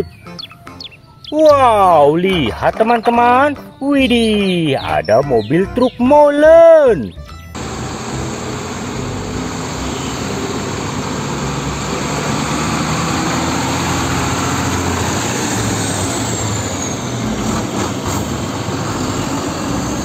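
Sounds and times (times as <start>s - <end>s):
road traffic: 0.0s - 20.0s
truck diesel engines droning: 0.0s - 20.0s.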